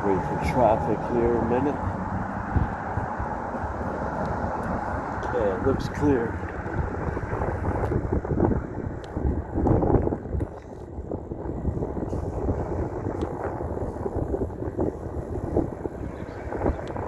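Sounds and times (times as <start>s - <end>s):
road rumble: 0.0s - 17.0s
wind buffeting microphone: 0.0s - 17.0s.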